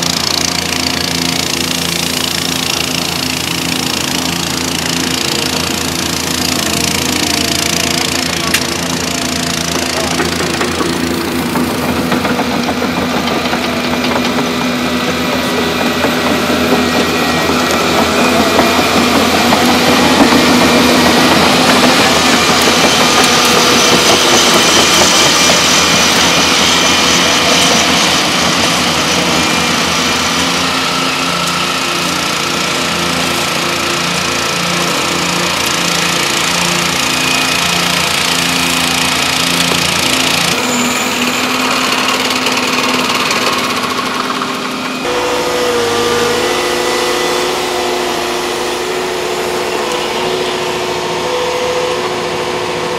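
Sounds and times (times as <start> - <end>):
excavator diesel engines running: 0.0 - 52.9.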